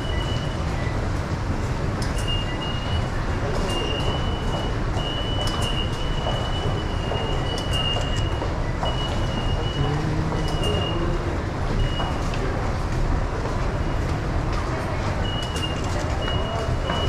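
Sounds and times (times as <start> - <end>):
crowd footsteps and movement: 0.0 - 17.0.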